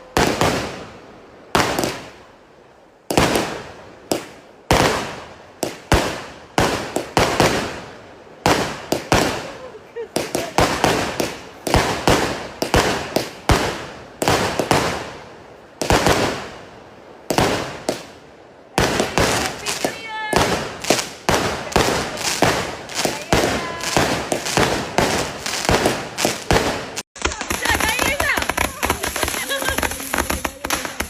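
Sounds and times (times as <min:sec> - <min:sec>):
firecrackers banging: 0:00.0 - 0:02.3, 0:03.0 - 0:31.0.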